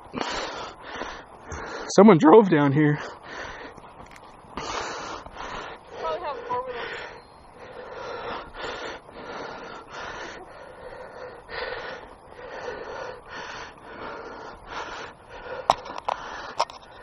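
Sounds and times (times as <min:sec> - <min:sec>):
person breathing hard: 0:00.0 - 0:01.9, 0:03.0 - 0:03.9, 0:04.6 - 0:17.0.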